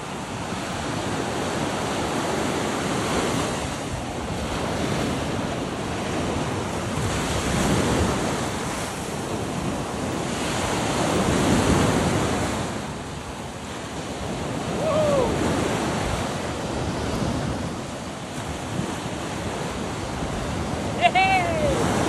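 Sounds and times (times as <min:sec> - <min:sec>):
surf washing onto shore: 0:00.0 - 0:22.0
wind buffeting microphone: 0:00.0 - 0:22.0.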